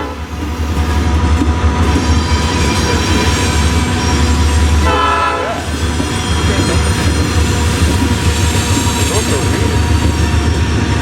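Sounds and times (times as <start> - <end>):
train rumbling past: 0.0 - 11.0
wheels squealing on rail: 1.8 - 10.8.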